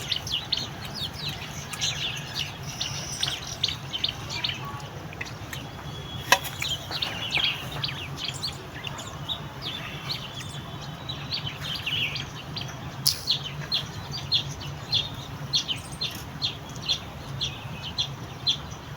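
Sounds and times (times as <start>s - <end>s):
low steady hum: 0.0s - 18.9s
small birds chirping: 0.0s - 18.9s.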